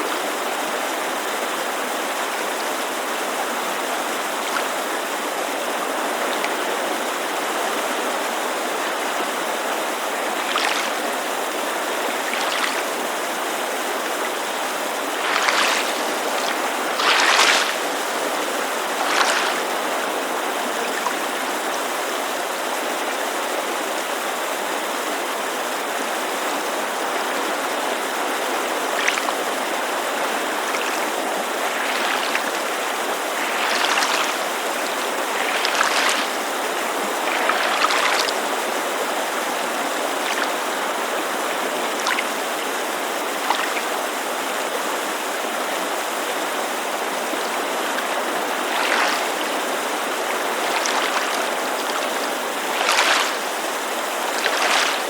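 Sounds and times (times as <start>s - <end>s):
creek water rushing: 0.0s - 55.0s
waves lapping on shore: 0.0s - 55.0s.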